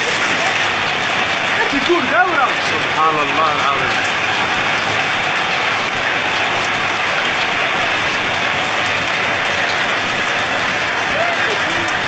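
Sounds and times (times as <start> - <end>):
driving rain: 0.0 - 12.0.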